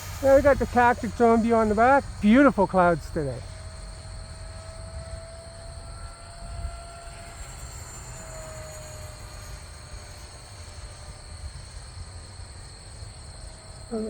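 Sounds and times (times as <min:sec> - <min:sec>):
wind rumbling on microphone: 0:00.0 - 0:13.9
electric ducted fan whining: 0:00.0 - 0:14.0.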